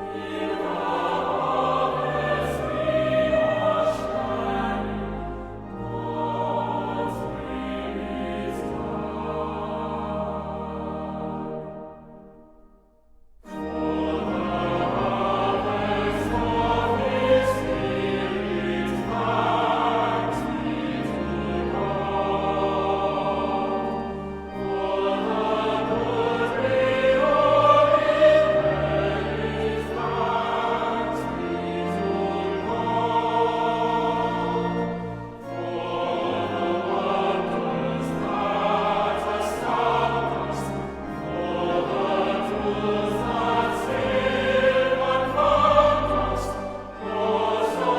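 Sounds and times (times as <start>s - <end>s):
choir singing a hymn: 0.0s - 12.6s, 13.4s - 47.9s.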